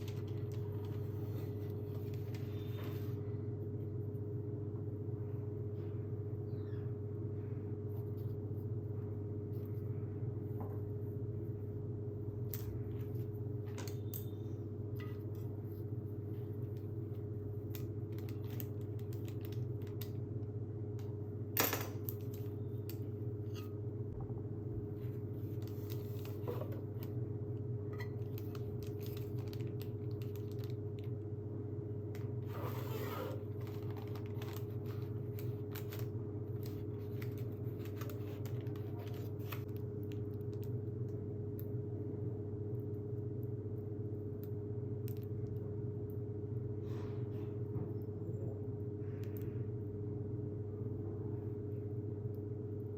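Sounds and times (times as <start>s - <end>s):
steady electrical hum: 0.0s - 52.9s.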